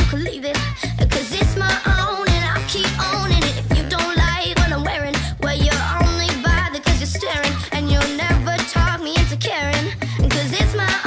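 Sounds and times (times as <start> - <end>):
kick drum beat: 0.0 - 9.4, 10.2 - 11.0
upbeat dance-pop music: 0.0 - 11.0.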